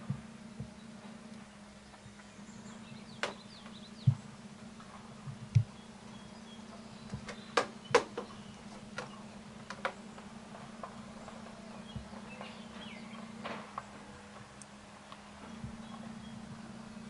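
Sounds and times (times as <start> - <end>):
steady low hum: 0.0 - 17.0
faint bird chirps: 0.6 - 4.5, 5.6 - 14.3, 15.1 - 17.0.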